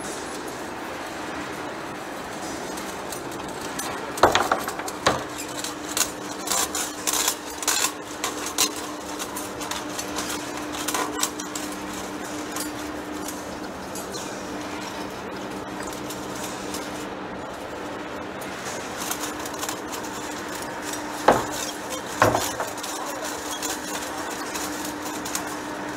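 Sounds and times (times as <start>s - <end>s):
metal lathe machining: 0.0s - 25.9s.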